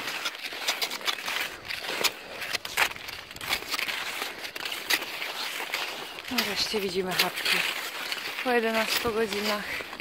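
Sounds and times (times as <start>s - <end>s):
skis crunching through snow: 0.0s - 10.0s.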